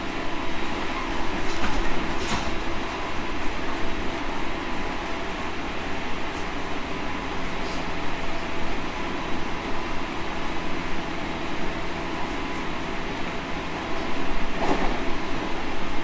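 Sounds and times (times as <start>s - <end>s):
train running on rails: 0.0s - 16.0s.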